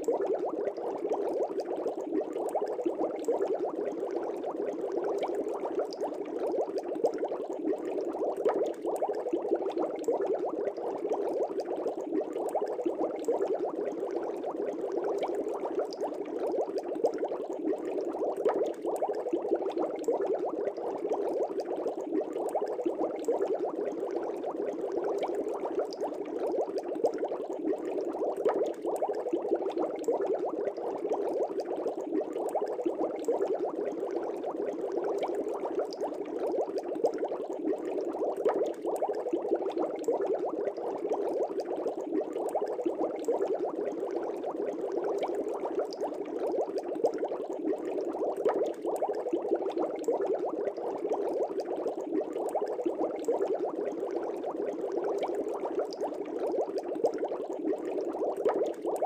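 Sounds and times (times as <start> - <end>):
air bubbles in fish tank: 0.0 - 59.0.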